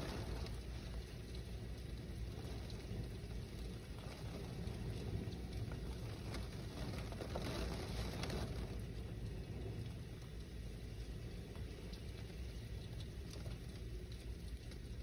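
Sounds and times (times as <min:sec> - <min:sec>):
low rumble of wind: 0:00.0 - 0:15.0
rain pattering on window glass: 0:00.0 - 0:15.0.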